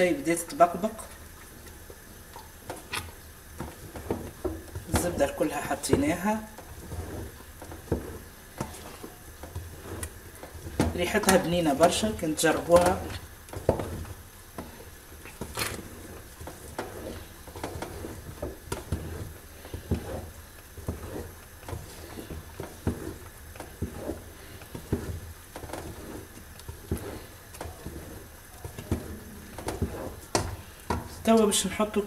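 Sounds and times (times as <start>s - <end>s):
wooden spoon stirring paste: 0.0s - 32.0s
spoon scraping metal pot: 2.8s - 30.7s.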